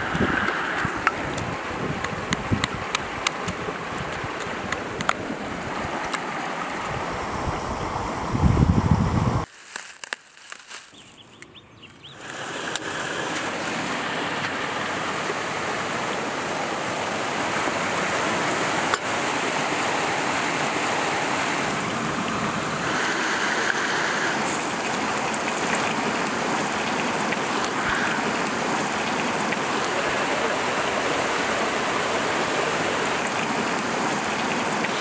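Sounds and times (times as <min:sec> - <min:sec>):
flowing stream: 0:00.0 - 0:08.8, 0:12.1 - 0:35.0.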